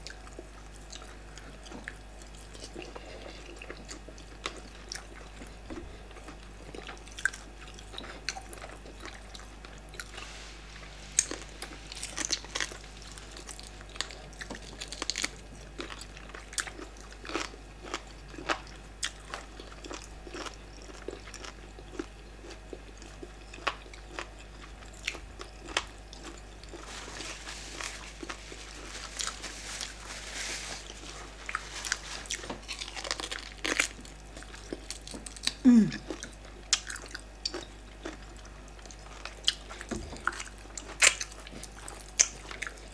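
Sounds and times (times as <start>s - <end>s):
chewing food: 0.0s - 10.3s, 11.1s - 30.2s, 30.8s - 42.9s.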